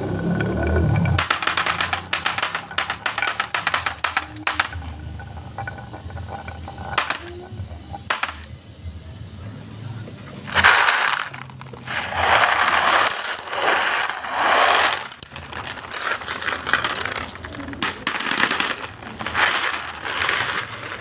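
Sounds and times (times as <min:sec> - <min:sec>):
marbles rolling down a track: 0:00.0 - 0:08.7, 0:10.3 - 0:21.0.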